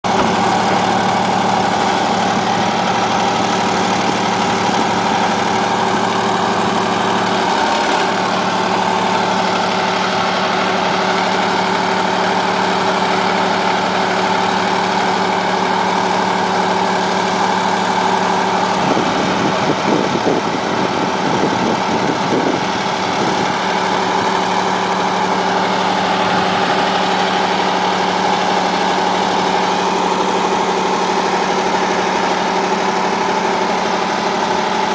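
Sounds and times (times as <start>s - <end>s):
machine engine idling: 0.0s - 34.9s.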